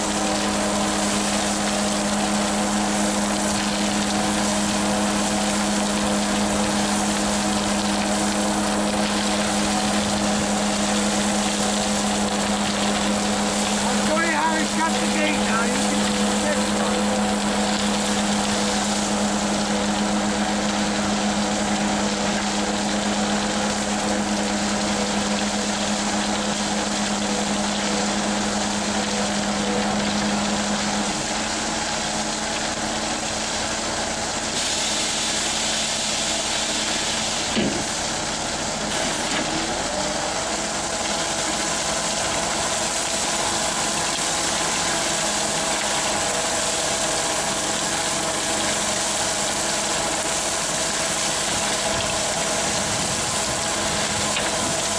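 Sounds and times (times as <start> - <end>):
diesel truck engine running: 0.0 - 54.9
gravel unloading from conveyor: 0.0 - 54.9.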